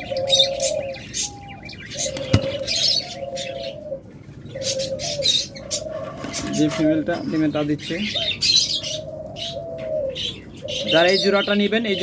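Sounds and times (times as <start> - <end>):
doves cooing: 0.0 - 12.0
small birds chirping: 0.0 - 12.0.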